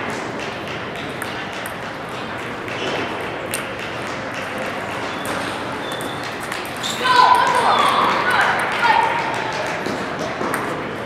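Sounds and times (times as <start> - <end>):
hubbub of large hall: 0.0 - 11.0
table tennis ball clicking: 0.4 - 10.8.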